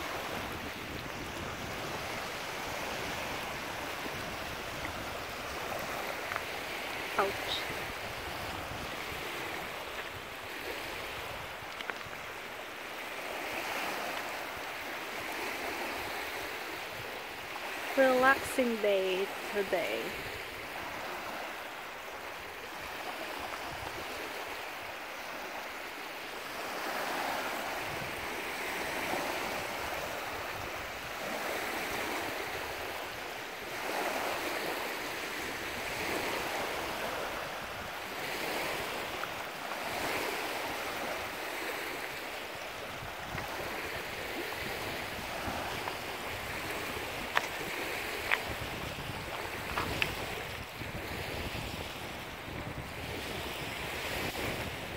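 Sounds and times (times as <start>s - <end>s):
small waves lapping on pebbles: 0.0s - 54.9s
steady wind: 0.0s - 54.9s.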